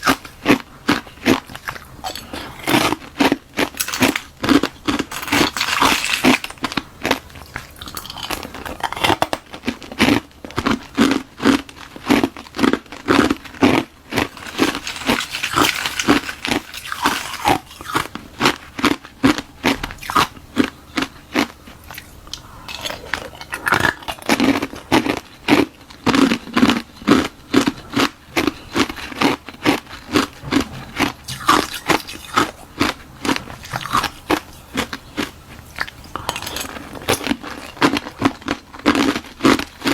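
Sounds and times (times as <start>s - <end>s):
ice crunching and chewing: 0.0s - 39.9s.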